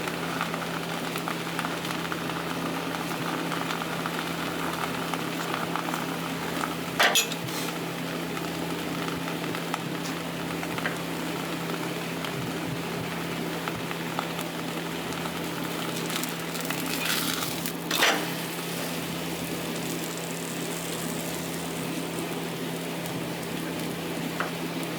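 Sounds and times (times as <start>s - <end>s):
pancake sizzling in oil: 0.0s - 24.9s.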